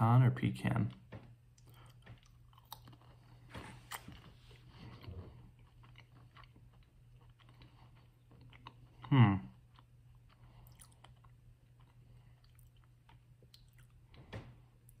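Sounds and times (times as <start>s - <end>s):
low steady hum: 0.0s - 15.0s
person chewing nut: 1.5s - 14.2s.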